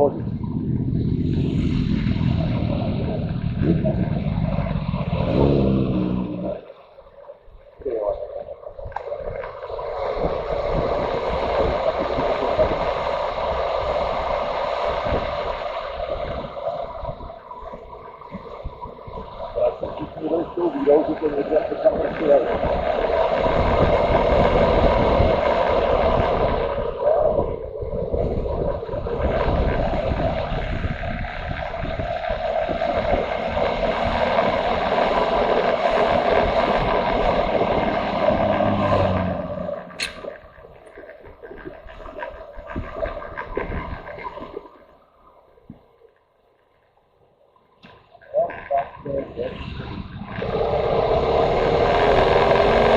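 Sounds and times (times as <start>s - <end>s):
wind buffeting microphone: 0.0s - 6.6s, 7.4s - 45.0s, 48.3s - 52.9s
motorcycle wind and road noise: 0.0s - 6.7s, 7.8s - 44.6s, 48.5s - 52.9s.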